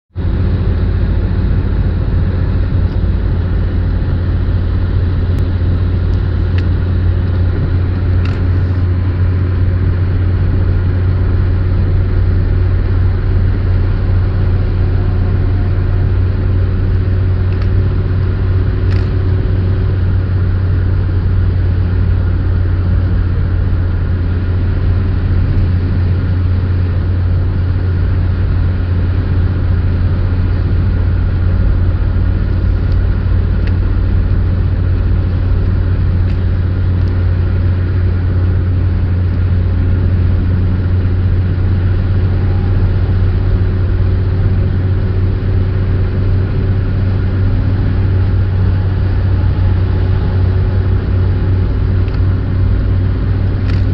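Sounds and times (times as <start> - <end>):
car engine and tyre noise: 0.1 - 53.9.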